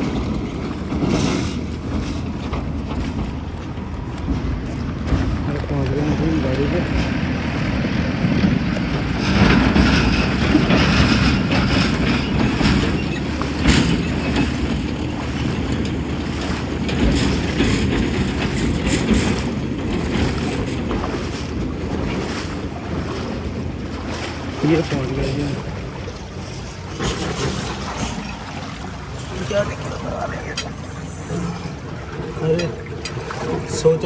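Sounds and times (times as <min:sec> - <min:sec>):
person wading through water: 0:00.0 - 0:34.0
river flowing: 0:00.0 - 0:34.0.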